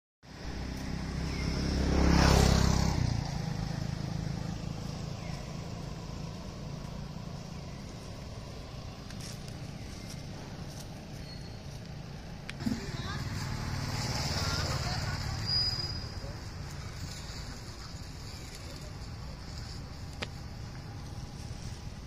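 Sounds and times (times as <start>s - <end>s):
vehicle passing by: 0.3s - 11.2s, 12.0s - 22.0s.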